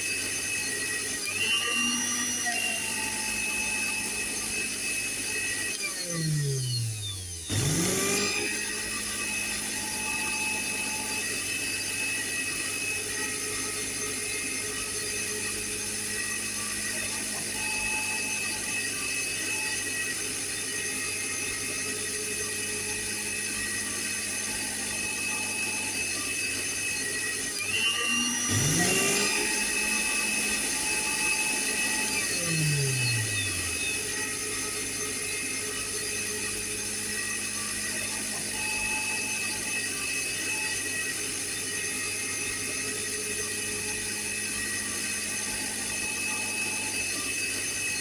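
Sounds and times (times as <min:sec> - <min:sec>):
electric blender whining: 0:00.0 - 0:48.0.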